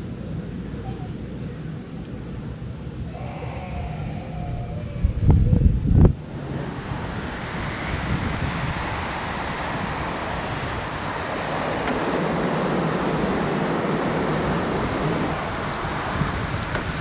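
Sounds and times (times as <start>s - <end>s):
wind buffeting microphone: 0.0s - 17.0s
ocean surf rushing: 3.0s - 17.0s.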